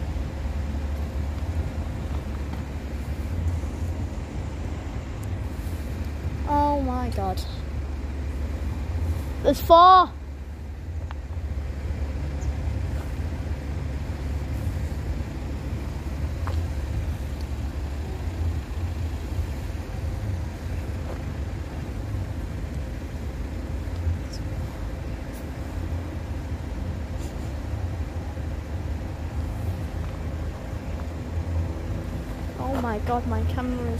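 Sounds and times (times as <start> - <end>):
train rumbling: 0.0 - 33.9.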